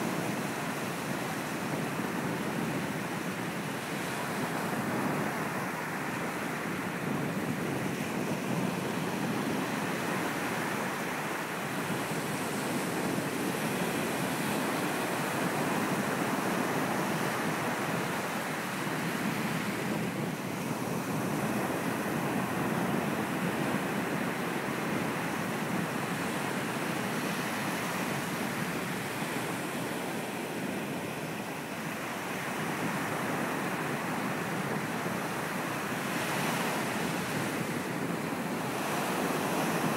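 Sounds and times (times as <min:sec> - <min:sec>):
ocean waves on a beach: 0:00.0 - 0:39.9.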